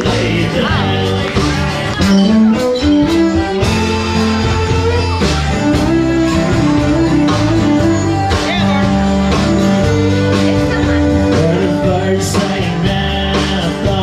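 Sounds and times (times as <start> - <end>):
country band playing: 0.0 - 14.0
guitar: 0.0 - 14.0.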